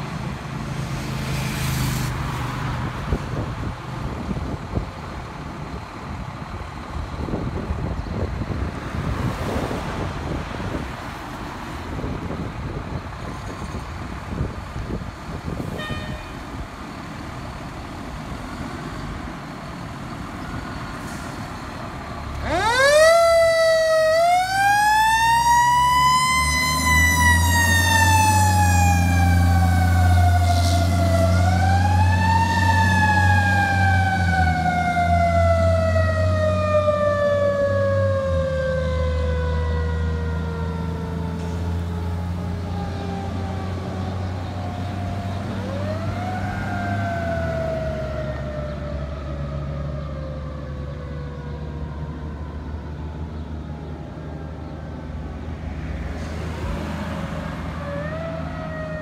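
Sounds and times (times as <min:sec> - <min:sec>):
street noise: 0:00.0 - 0:59.0
diesel engine rumble: 0:02.8 - 0:59.0.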